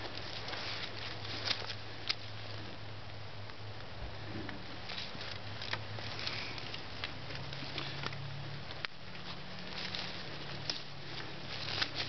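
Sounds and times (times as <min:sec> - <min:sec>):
rustling of dry leaves: 0:00.0 - 0:12.0
steady low hum: 0:00.0 - 0:12.0.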